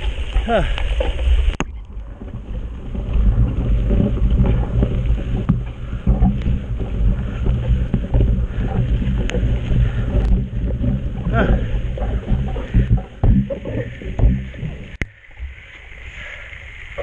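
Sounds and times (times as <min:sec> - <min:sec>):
bike knocks and rattles: 0:00.0 - 0:15.1
mountain bike rolling on trail: 0:00.0 - 0:17.0
wind rumbling on microphone: 0:00.0 - 0:17.0.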